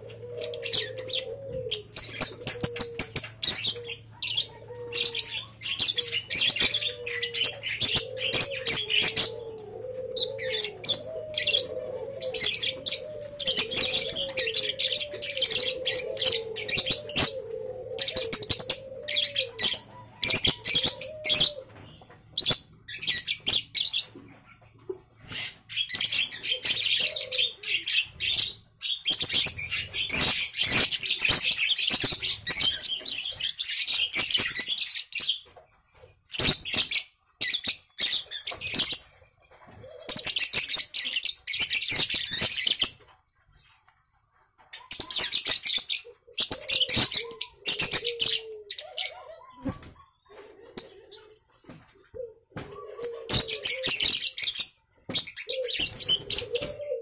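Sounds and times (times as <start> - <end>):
lovebirds chattering: 0.0 - 43.8, 44.5 - 57.0.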